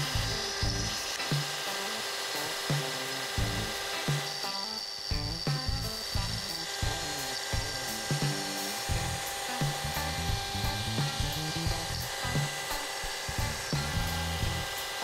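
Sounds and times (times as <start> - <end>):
background music with beat: 0.0 - 1.8, 2.4 - 15.0
router spindle cutting plywood: 0.0 - 15.0
shop vacuums running: 0.0 - 15.0.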